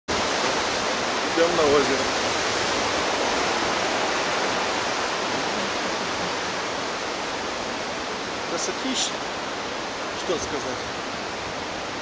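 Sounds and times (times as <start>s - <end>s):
river rushing over rapids: 0.1s - 12.0s.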